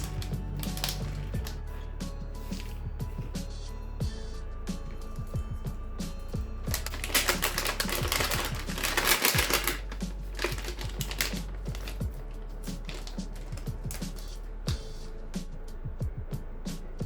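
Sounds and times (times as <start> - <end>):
background music with beat: 0.0 - 17.0.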